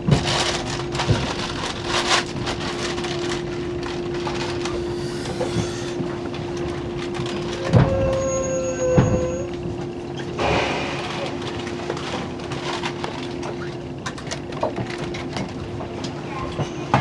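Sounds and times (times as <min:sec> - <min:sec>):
constant hum: 0:00.0 - 0:17.0
train wheels rumbling on rail: 0:00.0 - 0:17.0.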